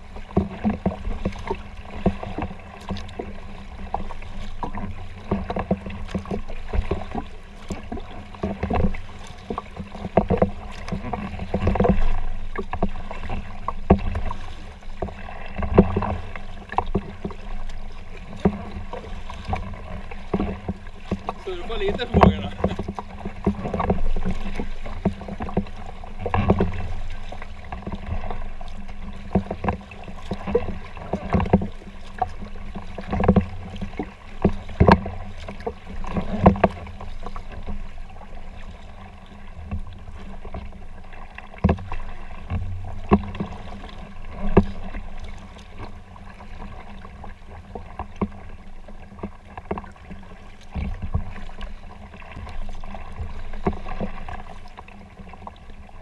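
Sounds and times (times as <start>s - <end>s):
low rumble of water and air: 0.0s - 56.0s
paddle splashes and knocks: 0.0s - 56.0s.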